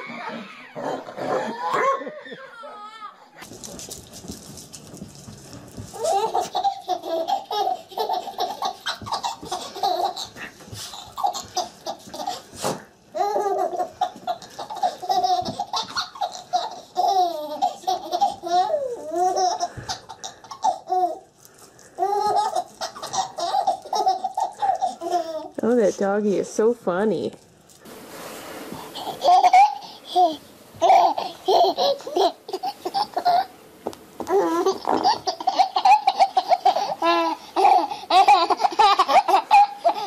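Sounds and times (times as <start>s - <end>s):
baby laughing: 0.0s - 3.4s, 6.0s - 21.3s, 22.0s - 25.6s, 28.9s - 33.5s, 34.3s - 40.0s.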